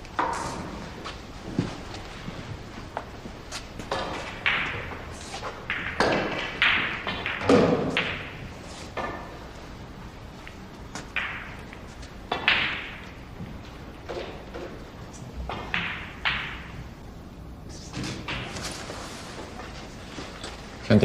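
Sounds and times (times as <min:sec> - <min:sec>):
billiard balls clacking: 0:00.0 - 0:20.8.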